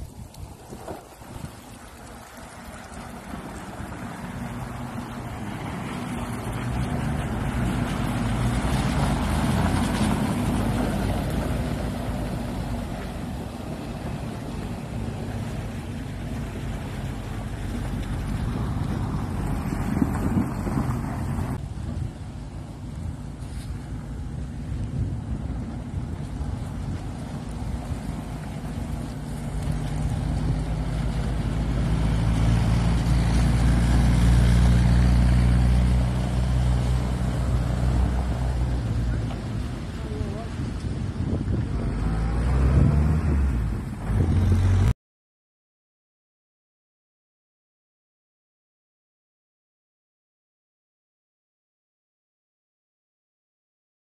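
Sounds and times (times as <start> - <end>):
jeep engine driving: 0.0 - 44.9.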